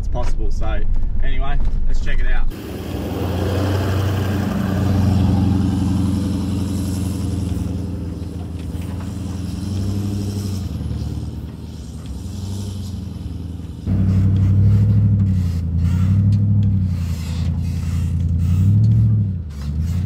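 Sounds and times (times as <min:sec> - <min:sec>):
vehicle engine driving past: 0:02.5 - 0:20.0.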